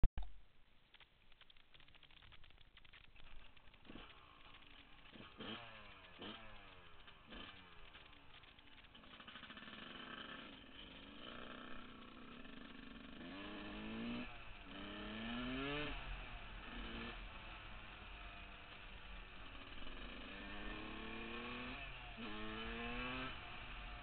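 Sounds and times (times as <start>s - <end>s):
dirt bike engine revving: 3.5s - 24.0s.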